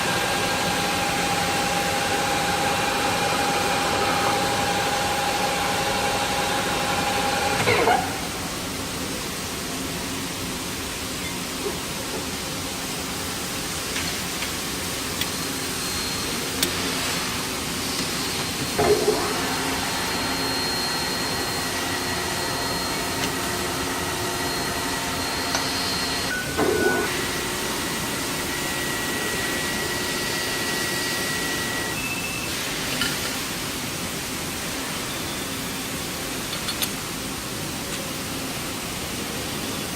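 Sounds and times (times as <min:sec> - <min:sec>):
machine hiss with hum: 0:00.0 - 0:39.9.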